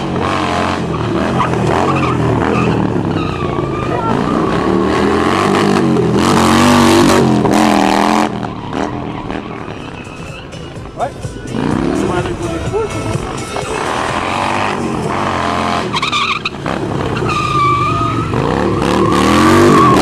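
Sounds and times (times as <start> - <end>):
motorcycle engine revving: 0.0 - 20.0
tyres skidding on asphalt: 0.0 - 20.0.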